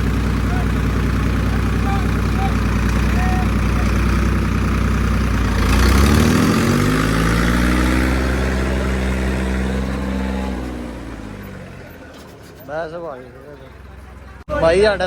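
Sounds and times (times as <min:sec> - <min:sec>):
diesel tractor engine revving: 0:00.0 - 0:15.0.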